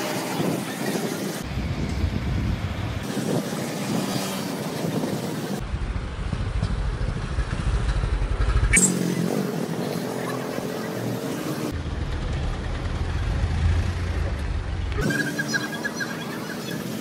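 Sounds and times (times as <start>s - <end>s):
passing motorcycles: 0.0s - 17.0s
street traffic rumble: 0.0s - 17.0s.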